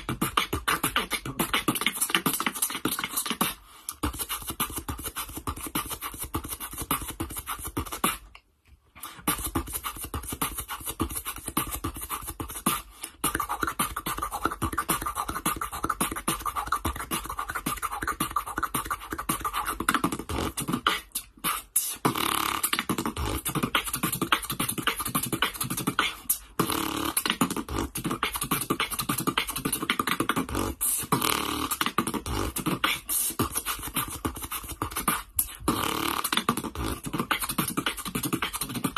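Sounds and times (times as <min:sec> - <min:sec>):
person beatboxing: 0:00.0 - 0:08.4, 0:09.0 - 0:38.9.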